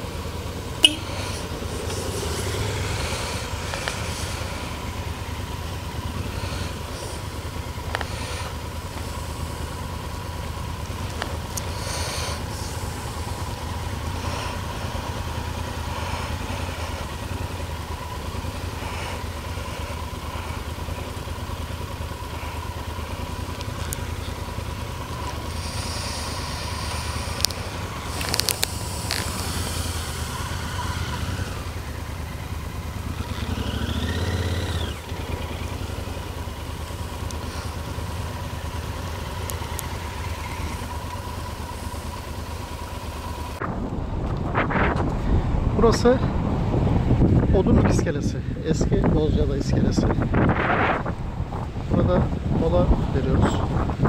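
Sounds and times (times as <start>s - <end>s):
motorcycle engine running at low revs: 0.0s - 54.0s.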